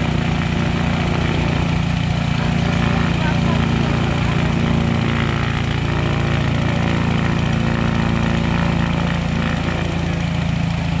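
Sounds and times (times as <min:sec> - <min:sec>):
biplane piston engine running: 0:00.0 - 0:11.0.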